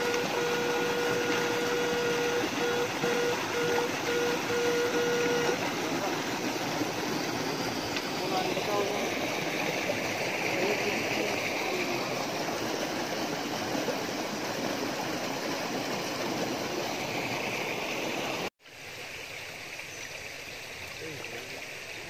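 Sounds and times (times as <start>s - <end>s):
flowing river water: 0.0s - 22.0s.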